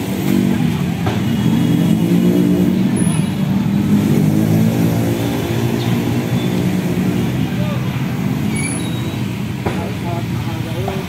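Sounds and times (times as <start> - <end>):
car engines running: 0.0 - 11.0
motorcycle engines running: 0.0 - 11.0.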